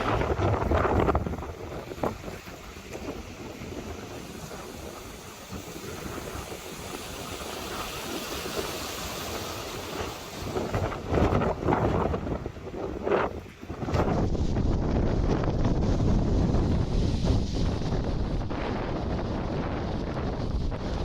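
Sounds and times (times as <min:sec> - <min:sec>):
wind gusts buffeting microphone: 0:00.0 - 0:21.0.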